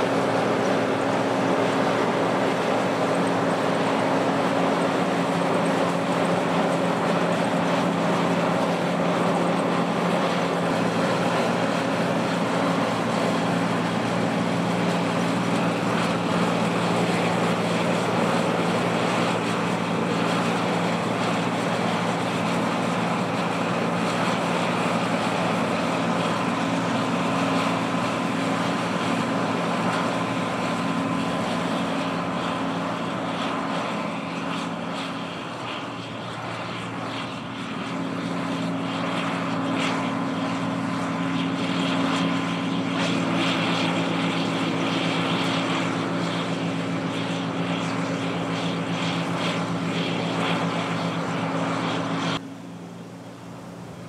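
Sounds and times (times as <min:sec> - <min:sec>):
engine drone: 0:00.0 - 0:54.0.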